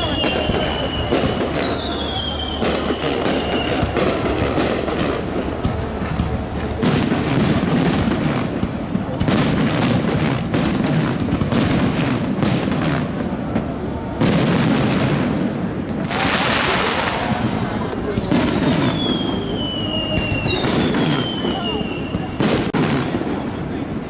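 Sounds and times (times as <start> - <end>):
crowd voices: 0.0 - 24.0.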